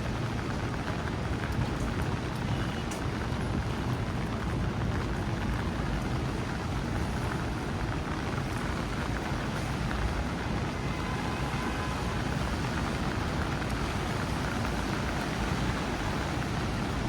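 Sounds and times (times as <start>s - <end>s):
rain falling on a street: 0.0s - 17.0s
traffic rumble: 0.0s - 17.0s.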